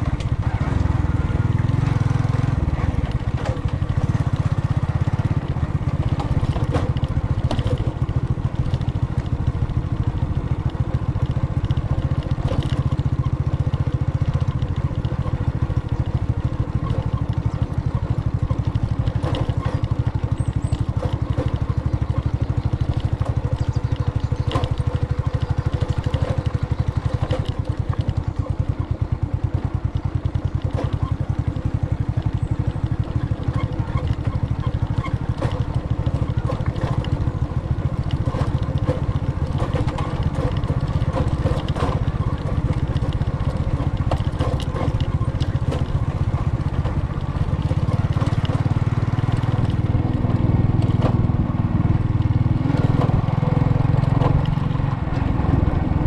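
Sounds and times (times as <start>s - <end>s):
vehicle engine running: 0.0s - 56.0s
knocks and rattles: 1.5s - 55.3s.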